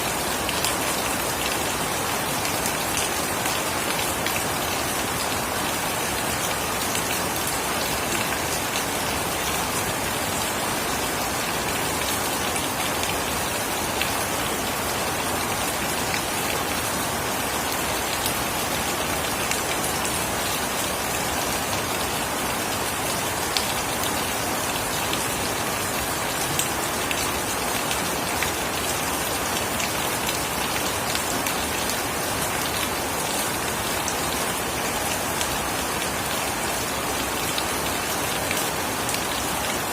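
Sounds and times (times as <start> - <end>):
heavy rain falling: 0.0 - 39.9
raindrops pattering on surfaces: 0.2 - 39.9.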